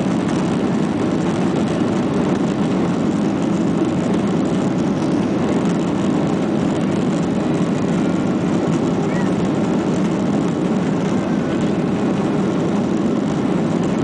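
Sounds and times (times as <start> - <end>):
jet engine roar inside cabin: 0.0 - 14.0.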